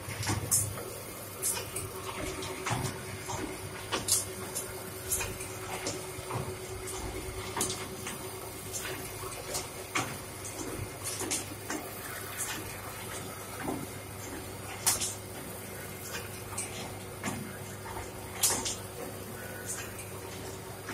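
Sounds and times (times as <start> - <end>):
mechanism clicks and ticks: 0.0 - 20.9.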